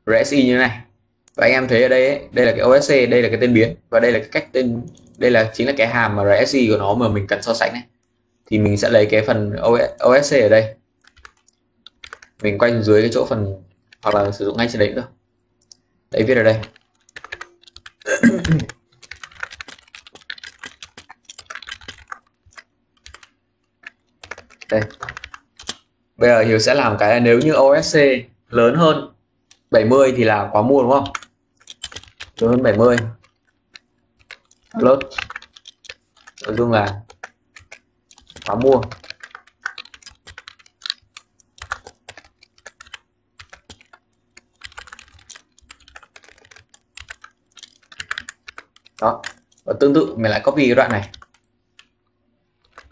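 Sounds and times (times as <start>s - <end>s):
computer keyboard typing: 4.2s - 5.8s, 8.5s - 15.0s, 15.6s - 27.9s, 29.4s - 52.0s, 52.6s - 52.9s.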